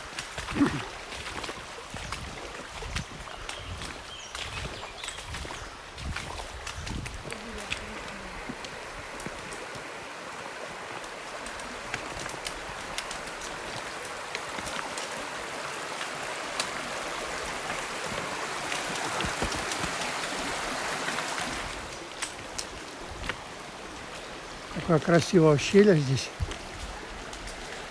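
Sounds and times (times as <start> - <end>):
mountain stream rushing: 0.0 - 27.9.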